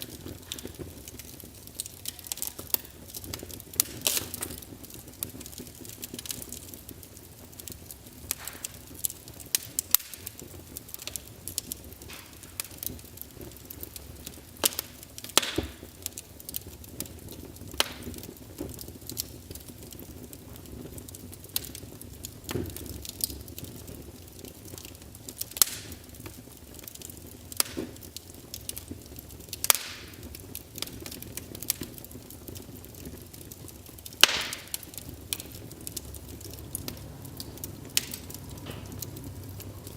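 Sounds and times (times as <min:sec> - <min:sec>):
loud snaps of fire: 0:00.0 - 0:39.9
low rumble of flames: 0:00.0 - 0:39.9
wood fire crackling: 0:00.0 - 0:39.9.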